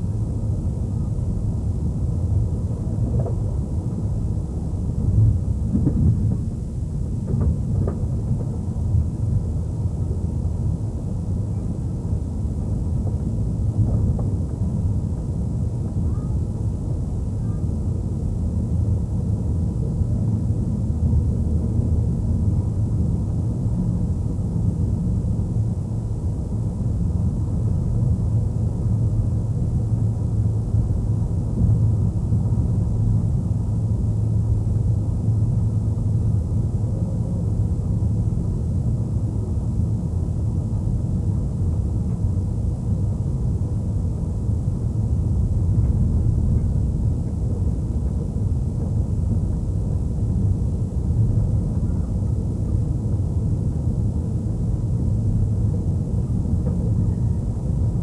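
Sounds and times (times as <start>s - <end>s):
low rumble of moving train: 0.0s - 58.0s.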